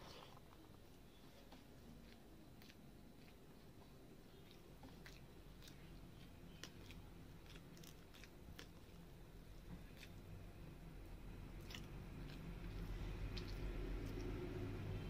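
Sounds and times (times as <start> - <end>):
chewing: 0.0 - 10.4, 11.4 - 14.8
wet squishes of rice mixed by hand: 0.0 - 15.0.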